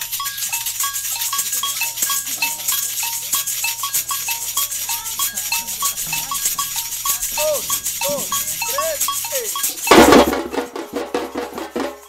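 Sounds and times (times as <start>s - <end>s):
agogo bells two-note figure: 0.0s - 10.6s
shakers rattling: 0.0s - 12.0s.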